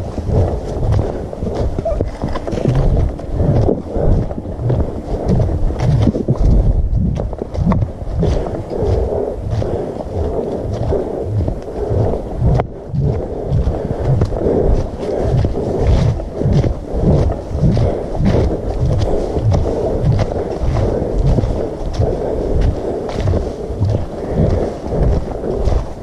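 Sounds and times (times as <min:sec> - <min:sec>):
camera jostling rumble: 0:00.0 - 0:26.0.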